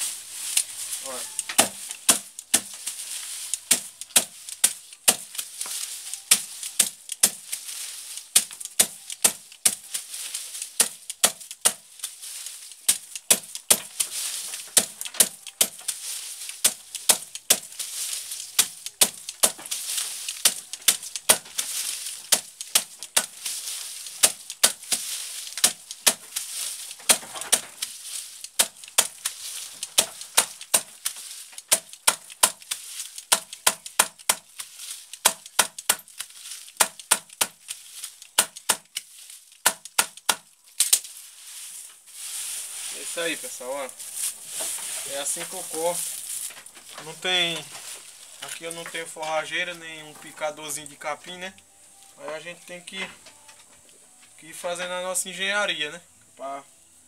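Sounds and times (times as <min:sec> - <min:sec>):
machete chopping grass: 0:01.0 - 0:49.0.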